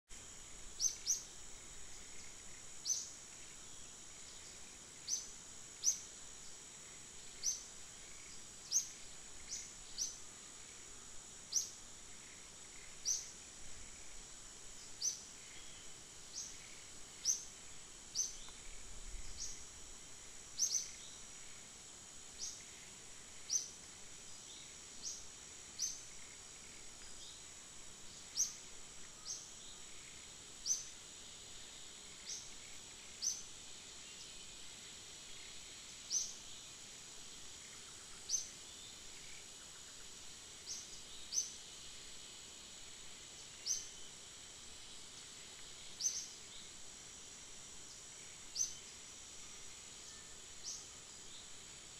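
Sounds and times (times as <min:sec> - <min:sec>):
high-pitched insect drone: 0:00.1 - 0:51.9.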